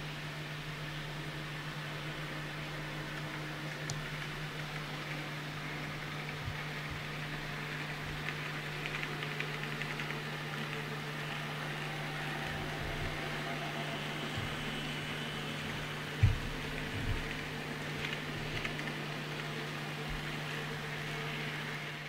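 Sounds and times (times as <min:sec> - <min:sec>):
model train motor hum: 0:00.7 - 0:22.0.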